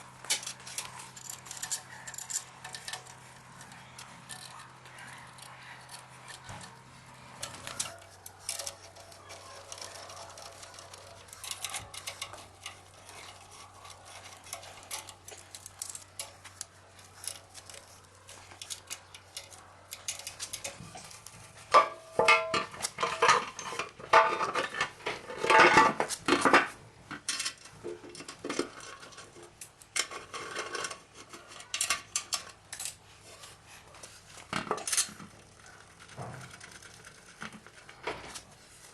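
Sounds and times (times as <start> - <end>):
metal engine parts clinking: 0.0 - 33.0, 34.4 - 38.0.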